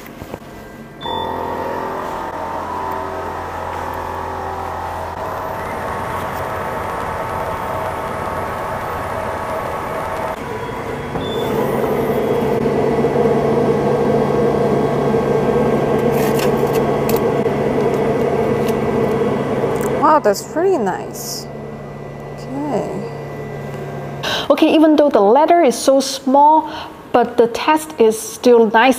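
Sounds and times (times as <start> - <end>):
laser cutter humming: 0.8 - 26.0.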